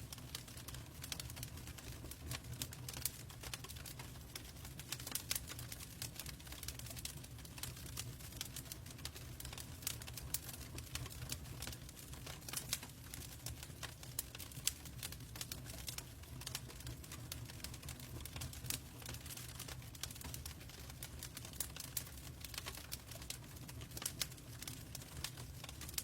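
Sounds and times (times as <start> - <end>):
low rumble of burning: 0.0 - 26.0
log fire crackling and popping: 0.1 - 26.0.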